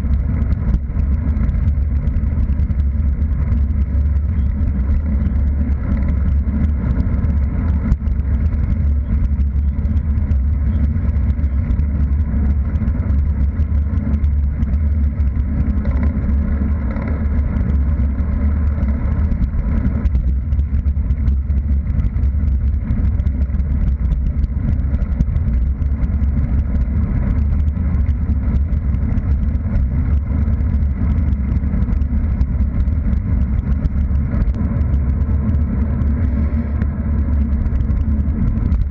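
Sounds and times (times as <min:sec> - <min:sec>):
bicycle tyre noise: 0:00.0 - 0:38.9
wind on microphone: 0:00.0 - 0:38.9.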